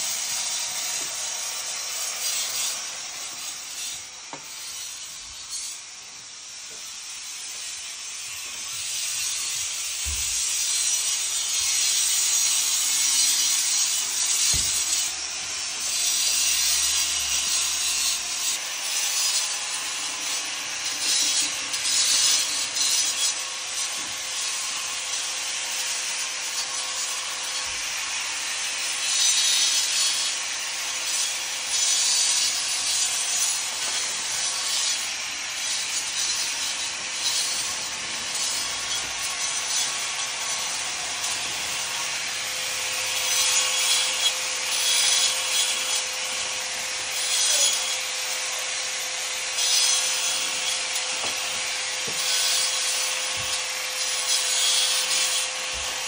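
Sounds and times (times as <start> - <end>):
angle grinder grinding mortar: 0.0 - 56.0.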